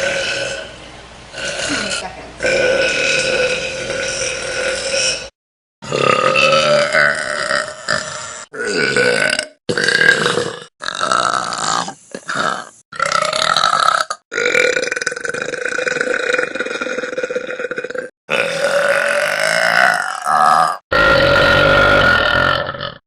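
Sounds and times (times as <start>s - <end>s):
women burping loudly: 1.4s - 11.4s, 13.0s - 23.0s.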